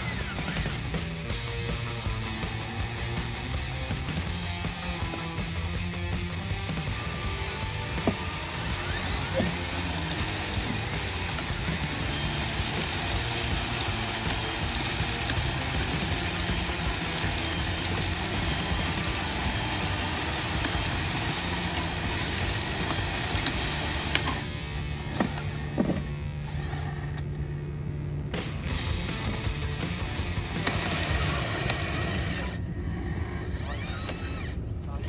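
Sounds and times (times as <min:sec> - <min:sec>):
electric motors whirring: 0:00.0 - 0:27.7, 0:28.8 - 0:35.0
background music: 0:00.0 - 0:32.8.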